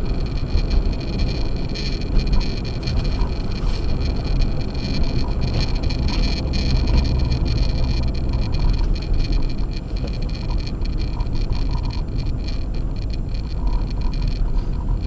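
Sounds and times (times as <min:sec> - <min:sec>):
tyre and road noise on snow: 0:00.0 - 0:15.0.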